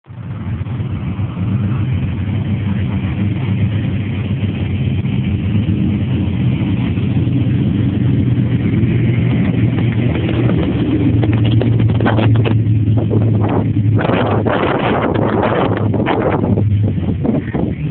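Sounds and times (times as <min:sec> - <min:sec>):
pickup truck engine running: 0:00.1 - 0:17.9.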